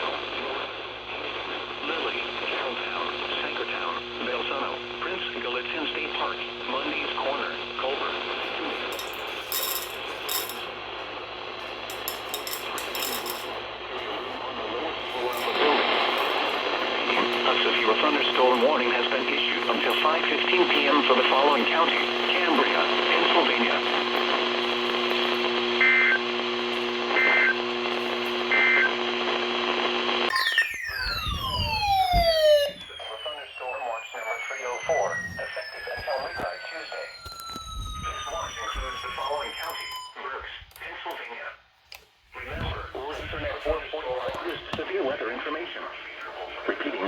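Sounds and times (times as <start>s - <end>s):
crackly radio bursts: 0.0s - 41.6s, 42.2s - 47.0s
radio receiver hiss: 0.0s - 47.0s
steady hum: 0.0s - 47.0s.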